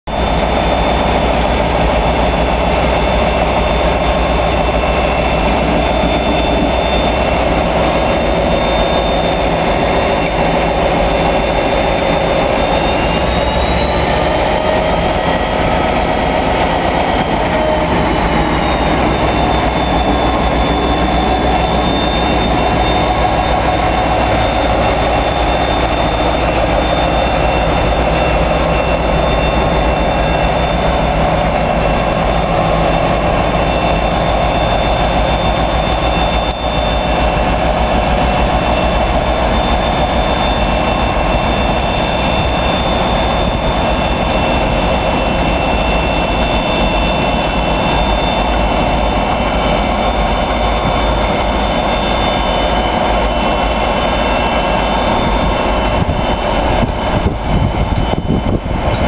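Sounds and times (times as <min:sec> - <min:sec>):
diesel locomotive engine drone: 0:00.0 - 0:59.0
high engine whine: 0:00.1 - 0:59.0.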